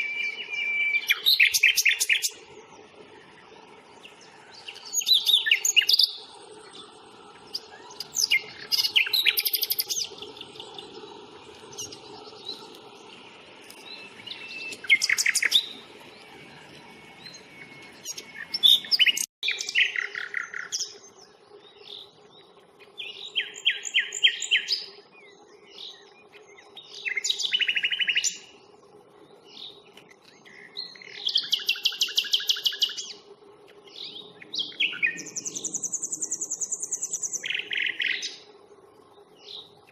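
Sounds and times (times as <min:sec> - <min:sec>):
nightingale singing trills: 0:00.0 - 0:39.9.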